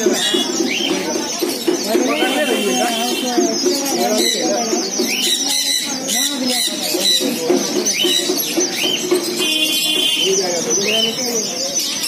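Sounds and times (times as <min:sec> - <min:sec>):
caged birds chirping and screeching: 0:00.0 - 0:12.0.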